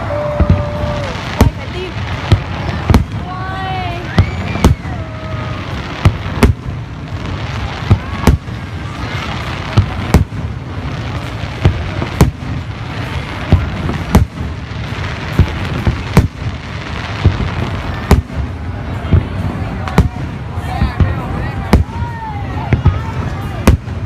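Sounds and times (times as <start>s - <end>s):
fireworks bangs: 0.0s - 24.0s
rumble of firework bursts: 0.0s - 24.0s.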